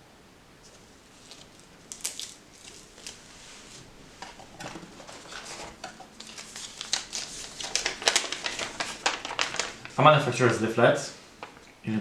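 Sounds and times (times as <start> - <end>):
rustling and scraping: 0.6 - 10.7.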